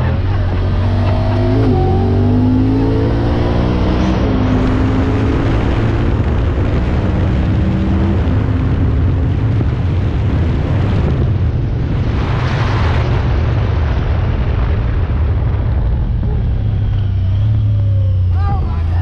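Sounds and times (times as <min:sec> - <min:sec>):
off-road vehicle engine rumbling: 0:00.0 - 0:19.0.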